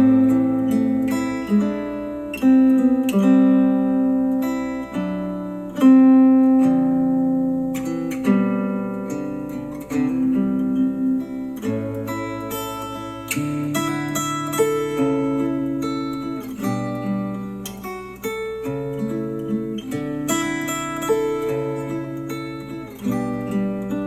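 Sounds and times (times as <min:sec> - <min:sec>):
acoustic guitar chords: 0:00.0 - 0:24.0.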